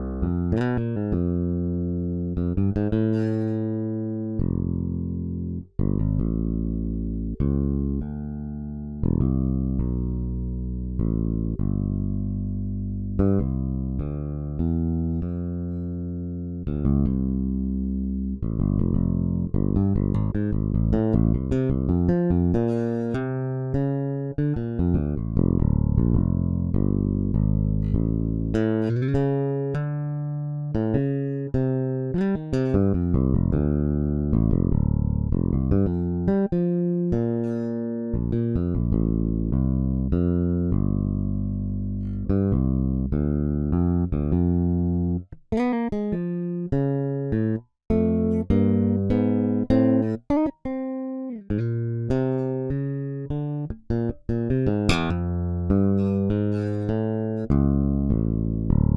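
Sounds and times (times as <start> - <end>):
electric bass playing: 0.0 - 58.9.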